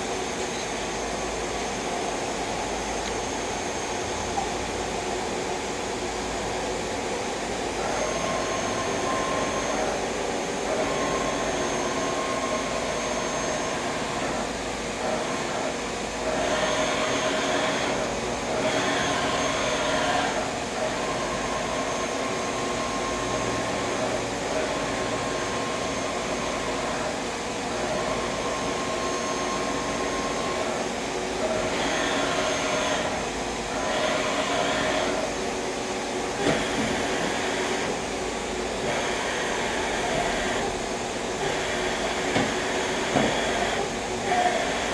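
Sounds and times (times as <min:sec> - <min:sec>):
machining center mechanical whirr: 0:00.0 - 0:44.9.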